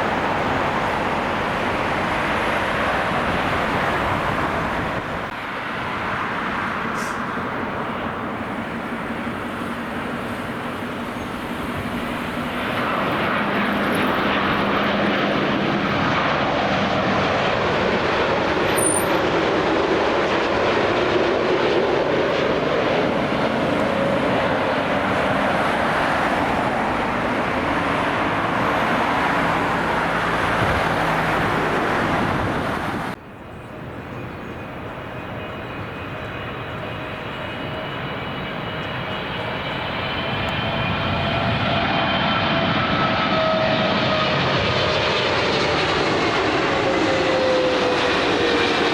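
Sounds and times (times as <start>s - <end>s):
aircraft engine whine: 0.0s - 48.9s
jet engines roaring: 0.0s - 48.9s.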